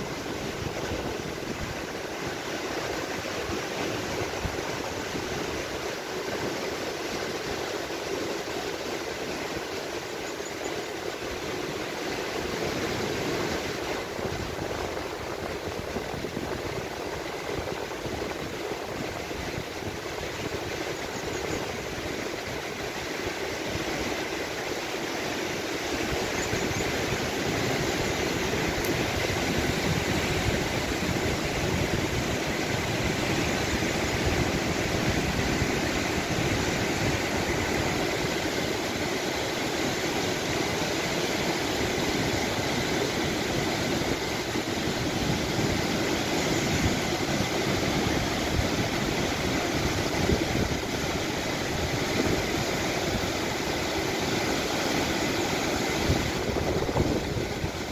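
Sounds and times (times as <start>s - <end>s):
river rushing over boulders: 0.0s - 57.9s.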